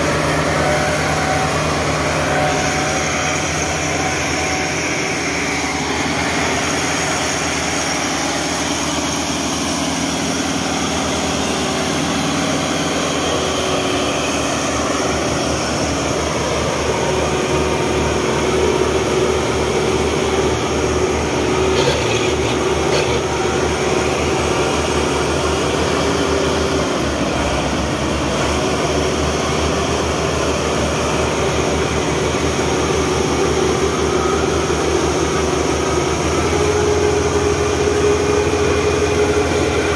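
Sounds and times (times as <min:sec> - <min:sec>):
tractor engine working under load: 0:00.0 - 0:39.9.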